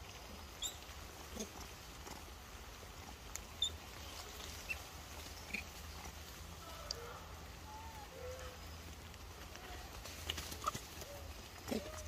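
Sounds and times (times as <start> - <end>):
clicks in dry leaves: 0.0 - 12.0.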